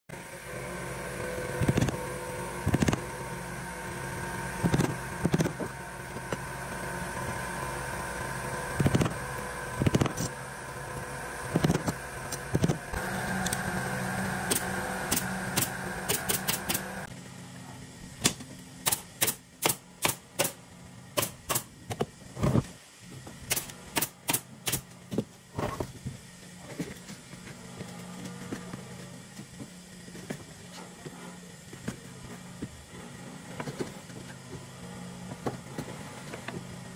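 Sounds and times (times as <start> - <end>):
steady hum: 0.1 - 36.9.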